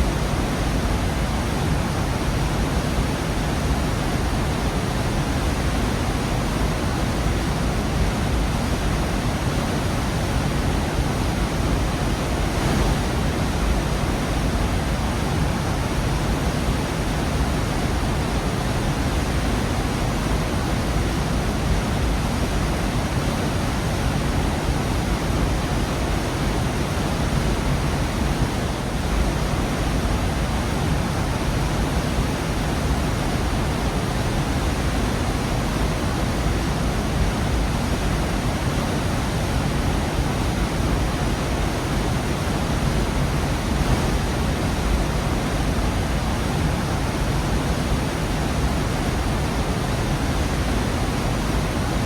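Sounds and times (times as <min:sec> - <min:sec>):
waterfall rushing: 0:08.9 - 0:52.0.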